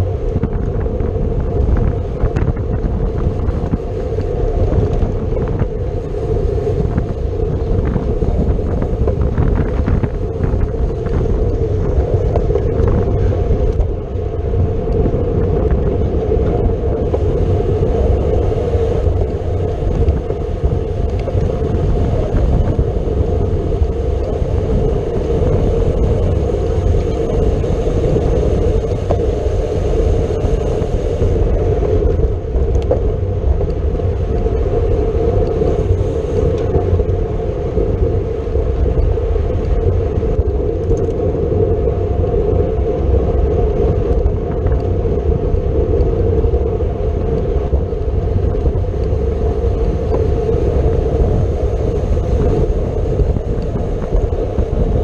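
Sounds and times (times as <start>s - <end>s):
tyre and road noise: 0.0s - 55.0s
wind rushing over microphone: 0.0s - 55.0s.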